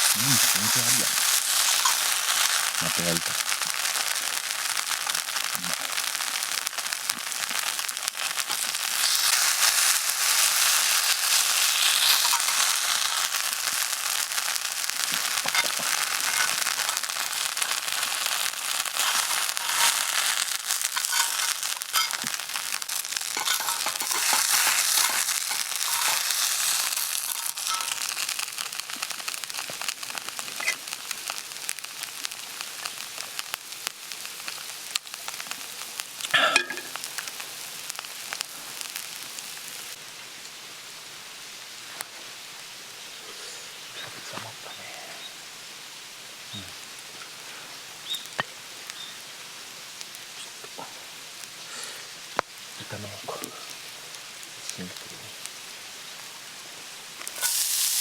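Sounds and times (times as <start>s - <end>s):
food sizzling on a griddle: 0.0s - 58.0s.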